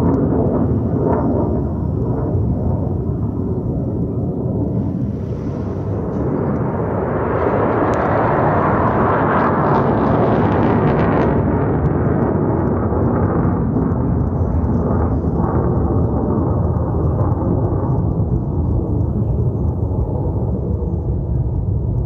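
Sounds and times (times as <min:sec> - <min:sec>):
jet aircraft roaring overhead: 0:00.0 - 0:22.0.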